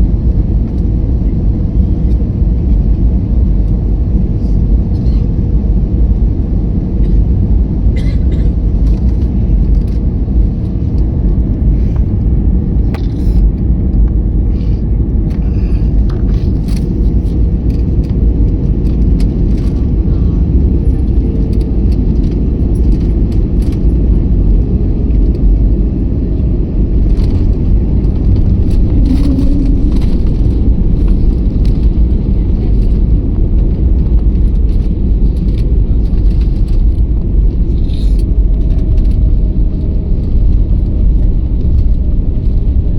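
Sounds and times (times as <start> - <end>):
airliner engine rumble: 0.0 - 42.9.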